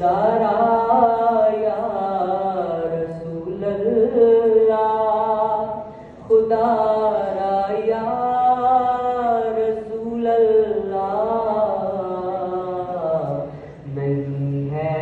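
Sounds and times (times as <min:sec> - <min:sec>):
boys chanting devotional recitation: 0:00.0 - 0:15.0.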